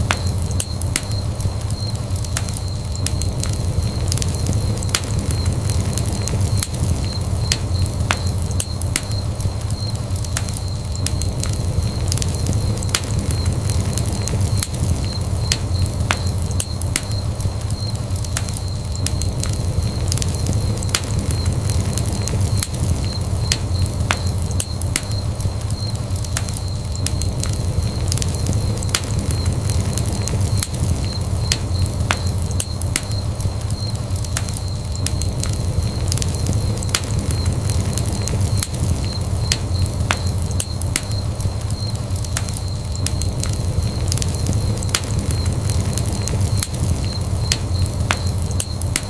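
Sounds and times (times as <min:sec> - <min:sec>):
fire roaring: 0:00.0 - 0:49.0
logs crackling and popping: 0:00.0 - 0:49.0
low rumble of flames: 0:00.0 - 0:49.0.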